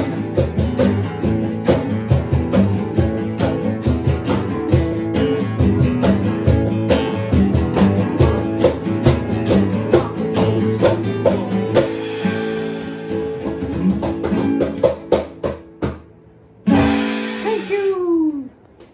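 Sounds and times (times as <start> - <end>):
guitars strumming: 0.0 - 18.8
cajon beats: 0.0 - 18.9.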